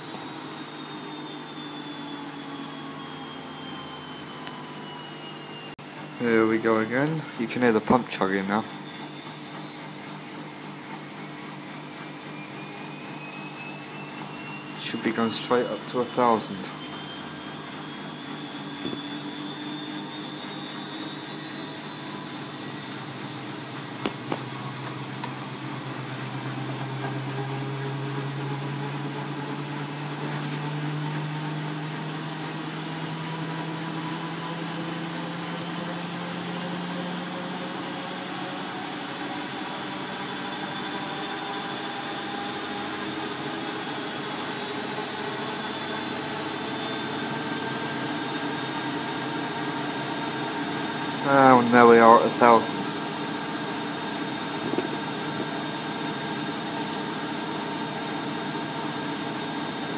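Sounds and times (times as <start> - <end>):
washing machine motor whine: 0.0 - 59.9.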